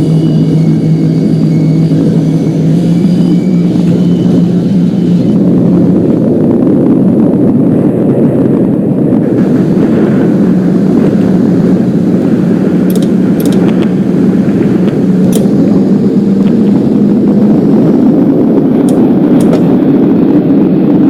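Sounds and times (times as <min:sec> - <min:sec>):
subway train rumbling on rails: 0:00.0 - 0:21.0.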